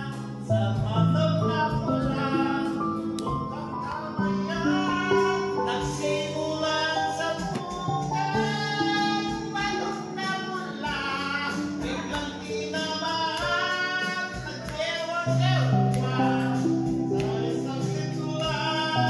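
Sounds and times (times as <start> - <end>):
music playing: 0.0 - 19.0
person singing: 0.0 - 19.0.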